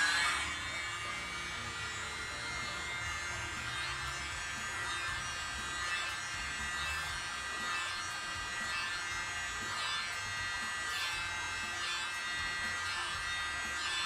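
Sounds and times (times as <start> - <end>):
electric air blower whining: 0.0 - 14.0.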